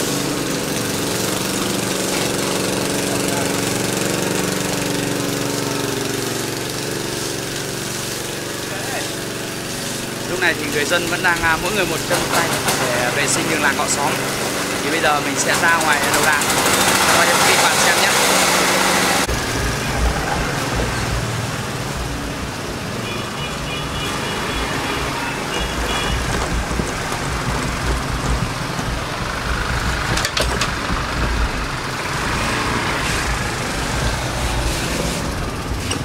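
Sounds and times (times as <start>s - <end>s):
motor vehicles rumbling: 0.0s - 36.0s.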